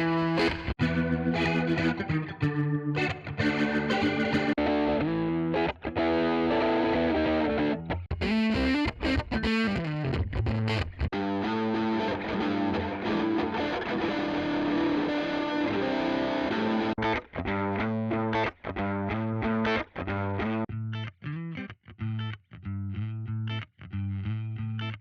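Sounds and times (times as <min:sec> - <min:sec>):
distorted electric guitar chords: 0:00.0 - 0:21.7.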